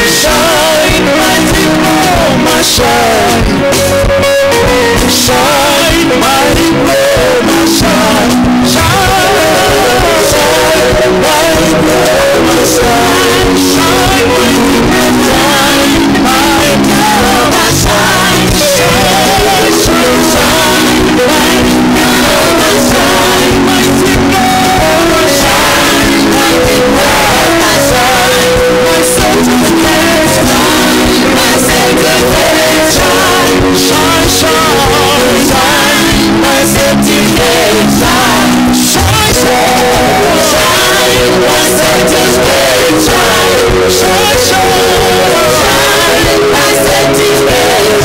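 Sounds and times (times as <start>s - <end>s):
band with guitar: 0.0s - 48.0s
voices singing worship music: 0.0s - 48.0s.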